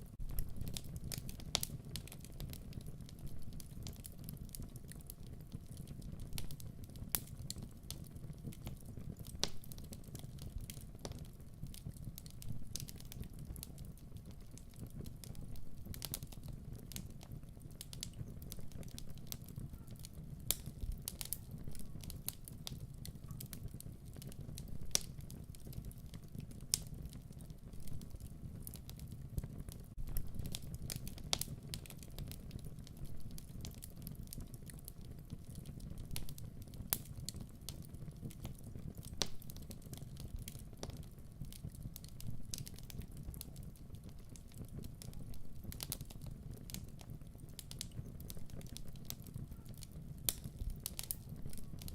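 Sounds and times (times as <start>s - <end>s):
wood fire crackling: 0.0s - 51.9s
fire pops and snaps: 0.1s - 51.9s.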